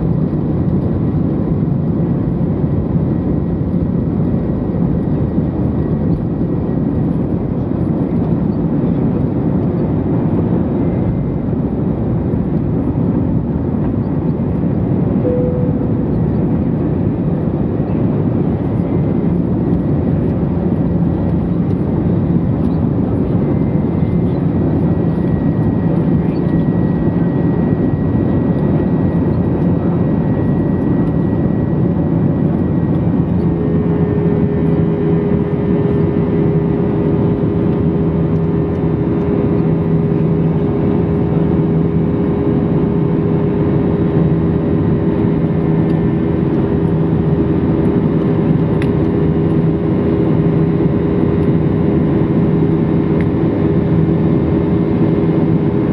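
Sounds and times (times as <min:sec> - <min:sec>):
jet engine whine: 0:00.0 - 0:55.9
jet engines rumbling: 0:00.0 - 0:55.9.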